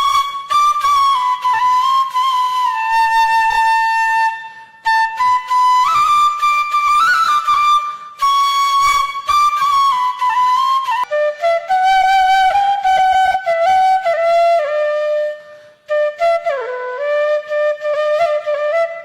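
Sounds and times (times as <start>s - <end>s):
solo flute melody: 0.0s - 19.0s.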